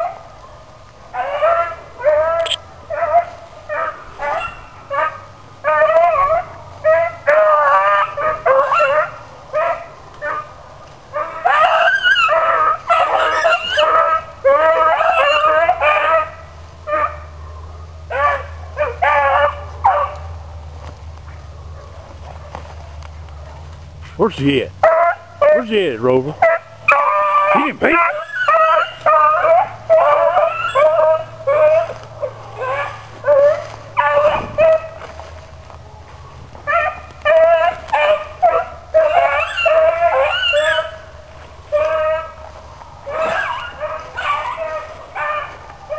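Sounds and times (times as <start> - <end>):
hounds baying: 0.0 - 20.6, 21.3 - 45.9.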